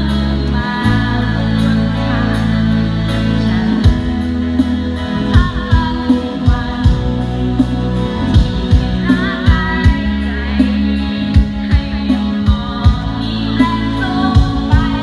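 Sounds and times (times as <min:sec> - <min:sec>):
bass and drum beat: 0:00.0 - 0:15.0
song with singing voice: 0:00.0 - 0:15.0.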